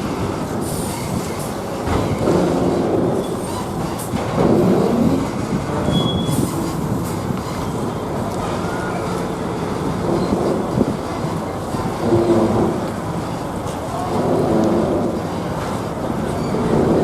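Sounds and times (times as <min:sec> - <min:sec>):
heavy vehicles rumbling: 0:00.0 - 0:17.0.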